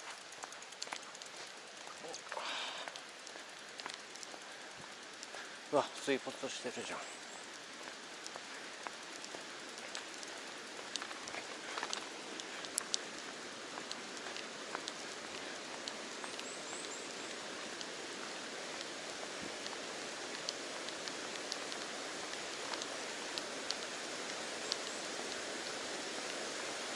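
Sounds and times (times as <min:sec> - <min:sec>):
sharp ticks and drips: 0:00.0 - 0:26.9.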